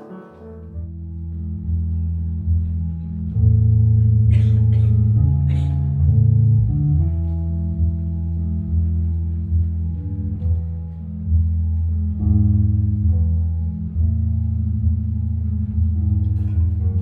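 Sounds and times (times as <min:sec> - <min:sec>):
low bass notes: 0:00.0 - 0:17.0
plucked guitar: 0:00.0 - 0:17.0.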